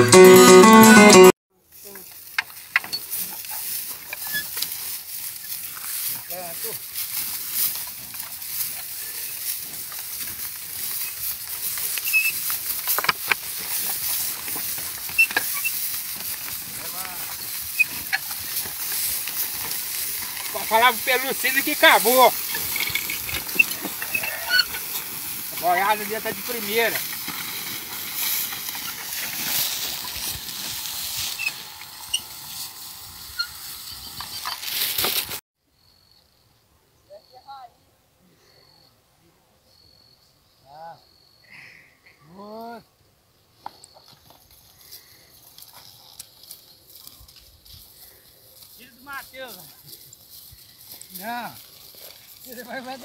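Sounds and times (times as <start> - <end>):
outdoor hiss and rustle: 1.6 - 40.6, 42.8 - 53.0
oxen hooves scuffing through dry grass: 1.7 - 35.4, 43.8 - 53.0.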